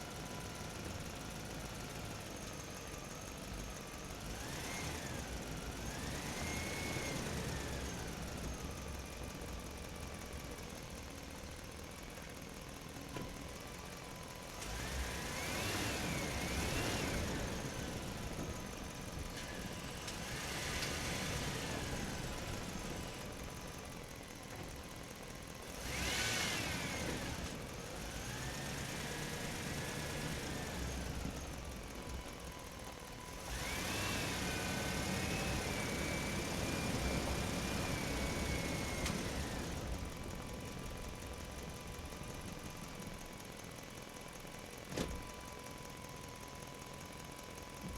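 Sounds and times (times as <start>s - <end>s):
excavator diesel engine: 0.0s - 47.9s.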